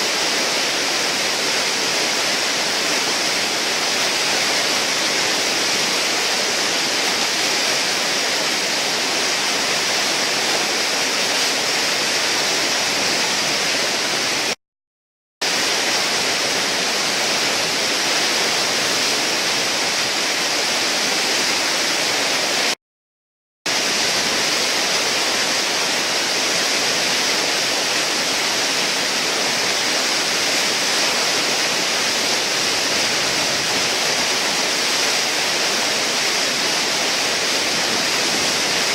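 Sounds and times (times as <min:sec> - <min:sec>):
whitewater rushing: 0:00.0 - 0:14.6, 0:15.4 - 0:22.8, 0:23.7 - 0:38.9.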